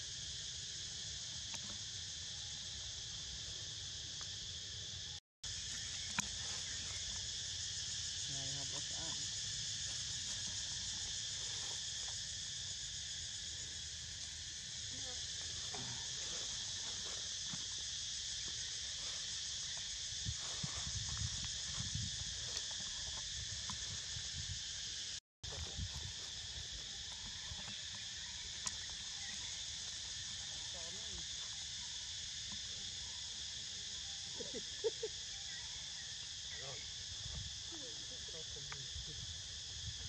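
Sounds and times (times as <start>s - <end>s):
shrill insect chorus: 0.0s - 40.0s.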